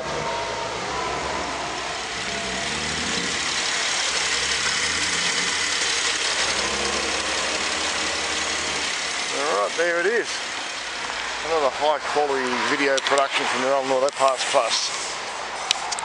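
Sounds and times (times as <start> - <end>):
car engine idling: 0.0 - 15.7.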